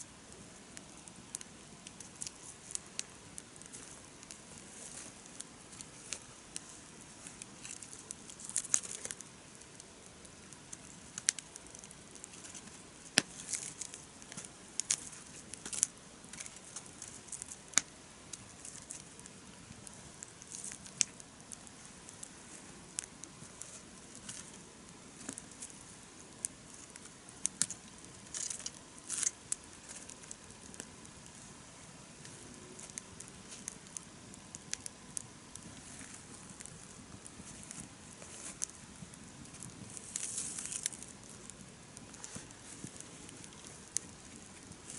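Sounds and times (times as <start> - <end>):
campfire crackling and popping: 0.0 - 44.9
low steady hiss: 0.0 - 44.9.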